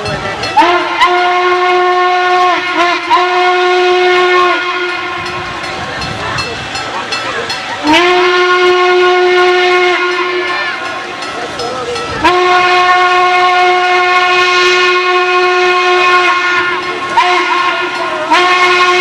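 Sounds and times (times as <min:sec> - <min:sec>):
crowd murmur: 0:00.0 - 0:19.0
steam whistle blasts: 0:00.6 - 0:05.7, 0:07.8 - 0:11.1, 0:12.2 - 0:19.0.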